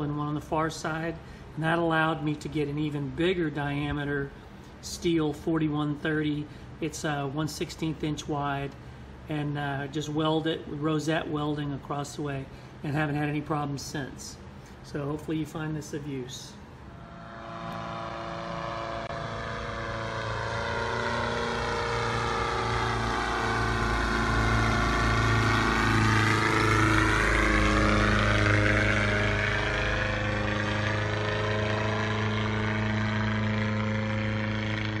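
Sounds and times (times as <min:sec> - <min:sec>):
biplane engine and propeller drone: 0:00.0 - 0:35.0.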